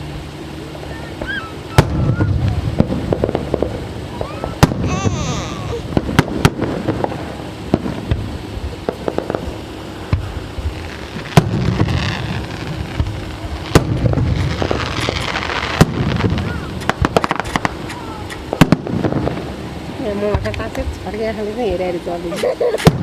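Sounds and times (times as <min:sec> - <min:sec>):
firework whistling glide: 0:00.0 - 0:20.2, 0:22.3 - 0:23.0
fireworks crackling: 0:00.0 - 0:23.0
fireworks bangs and pops: 0:01.2 - 0:21.7, 0:22.8 - 0:23.0.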